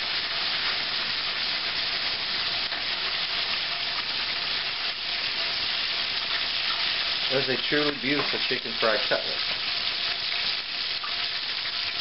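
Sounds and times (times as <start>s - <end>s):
oil sizzling in a skillet: 0.0s - 12.0s.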